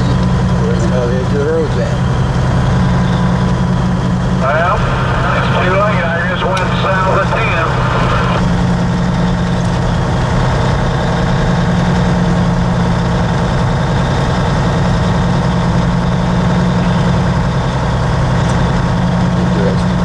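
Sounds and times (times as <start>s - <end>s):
diesel engine droning: 0.0s - 20.0s
road noise: 0.0s - 20.0s.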